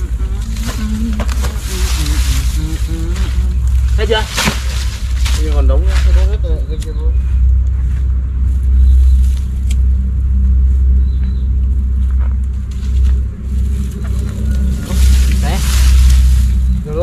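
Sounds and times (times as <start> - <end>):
dry palm fronds crackling: 0.0 - 17.0
steady low rumble: 0.0 - 17.0.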